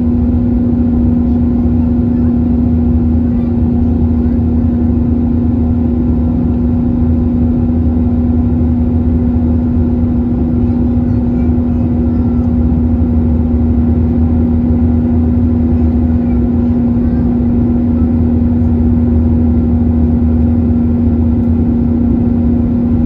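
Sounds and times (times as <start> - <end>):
airplane cabin engine drone: 0.0 - 23.0.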